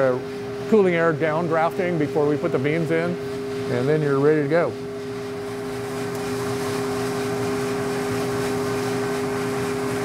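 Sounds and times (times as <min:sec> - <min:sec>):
blower two-tone hum: 0:00.0 - 0:10.0.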